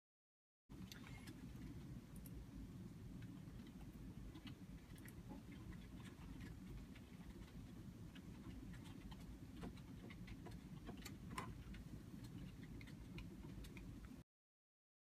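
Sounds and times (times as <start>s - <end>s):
low steady rumble: 0.7s - 14.2s.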